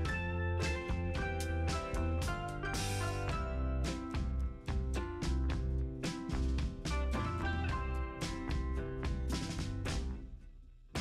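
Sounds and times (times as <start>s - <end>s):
rhythmic guitar music with bass: 0.0s - 11.0s.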